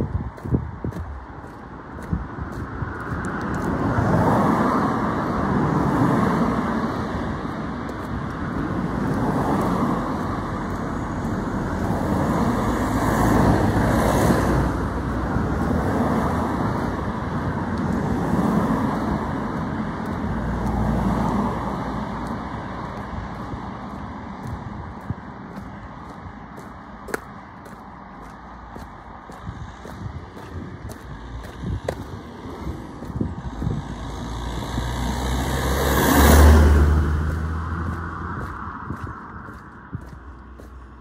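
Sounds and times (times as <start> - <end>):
cars passing close by: 0.0 - 41.0.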